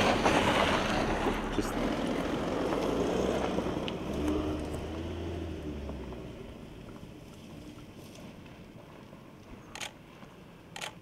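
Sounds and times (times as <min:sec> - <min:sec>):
tyres rolling on dirt: 0:00.0 - 0:10.7
car engine hum: 0:00.0 - 0:11.0.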